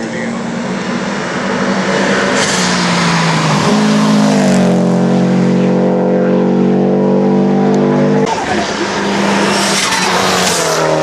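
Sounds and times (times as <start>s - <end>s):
race car engine passing: 0.0s - 11.0s.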